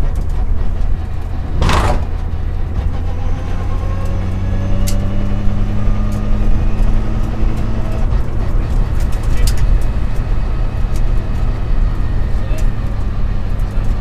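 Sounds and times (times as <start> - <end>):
car engine running from inside cabin: 0.0 - 14.0.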